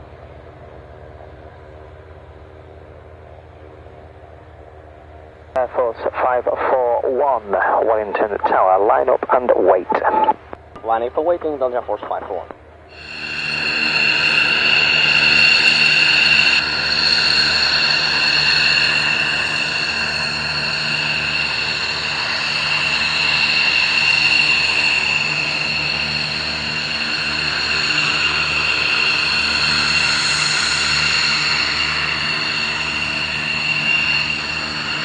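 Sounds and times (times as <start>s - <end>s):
jet engines idling whine: 0.0s - 35.0s.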